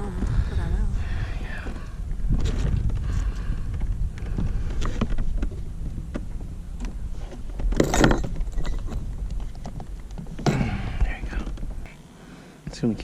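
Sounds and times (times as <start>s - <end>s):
wind rumbling on microphone: 0.0s - 11.9s.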